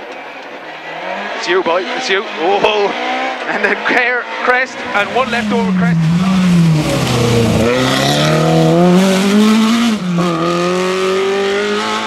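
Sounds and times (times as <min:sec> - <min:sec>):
rally car engine revving: 0:00.7 - 0:12.0.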